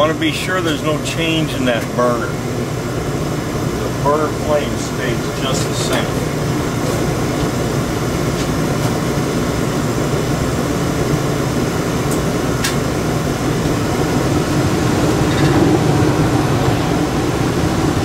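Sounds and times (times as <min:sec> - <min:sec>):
gas furnace running: 0:00.0 - 0:18.0.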